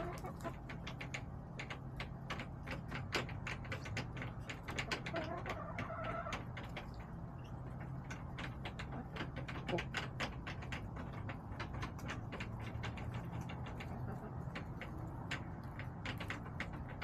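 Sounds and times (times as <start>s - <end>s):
hens' beaks tapping: 0.0s - 17.0s.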